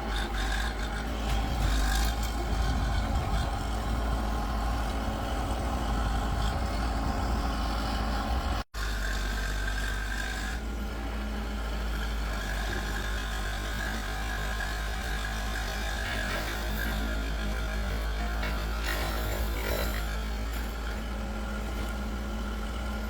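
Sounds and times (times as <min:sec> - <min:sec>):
engine whine: 0:00.0 - 0:23.0
vehicle engine running: 0:00.0 - 0:23.0.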